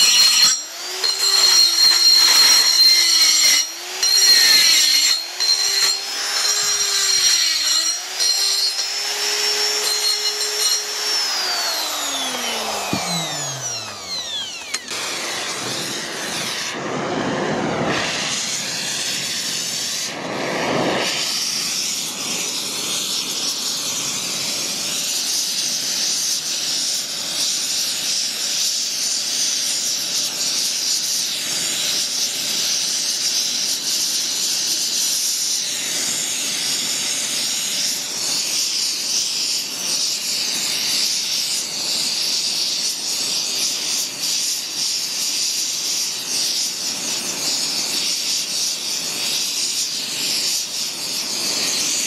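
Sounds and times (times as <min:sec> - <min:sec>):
torch burning with steady hiss: 0:10.2 - 0:52.0.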